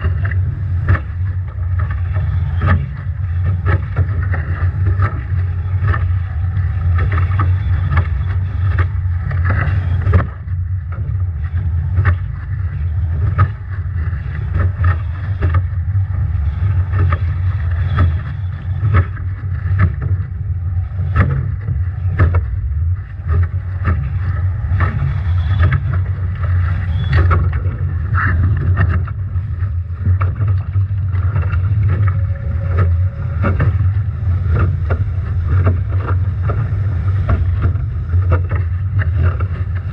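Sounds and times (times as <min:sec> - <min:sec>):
water rushing past hull: 0:00.0 - 0:39.9
waves slapping against boat: 0:00.0 - 0:39.9
wind buffeting microphone: 0:00.0 - 0:39.9.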